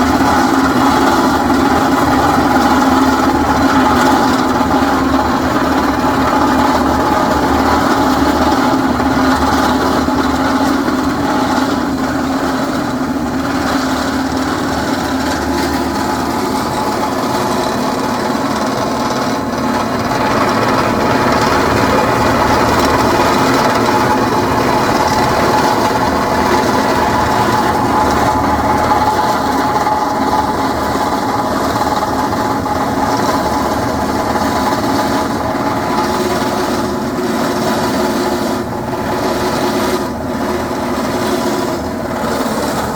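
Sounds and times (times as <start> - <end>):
drilling rig grinding concrete: 0.0 - 42.9.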